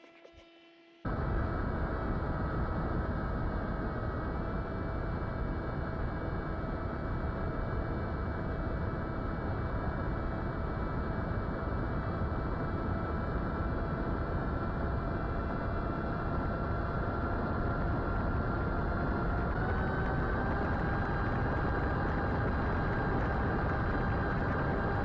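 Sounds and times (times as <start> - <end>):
wind rush on microphone: 1.1 - 25.0
electric motor and propeller whining: 4.0 - 25.0.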